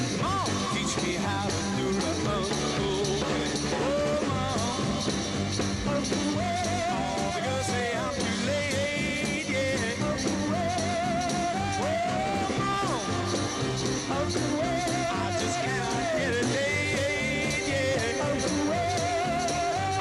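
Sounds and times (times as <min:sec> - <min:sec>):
rock and roll song with band: 0:00.0 - 0:20.0.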